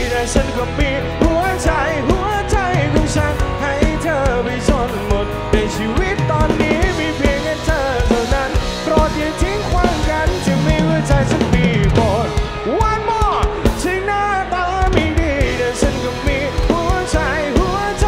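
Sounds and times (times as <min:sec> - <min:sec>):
drum kit: 0:00.0 - 0:18.0
electric guitar lead: 0:00.0 - 0:18.0.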